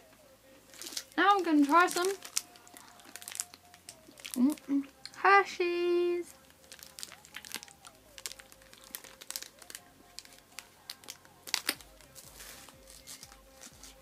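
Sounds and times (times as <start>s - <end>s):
chocolate wrapper crinkling: 0.7s - 5.2s, 6.3s - 14.0s.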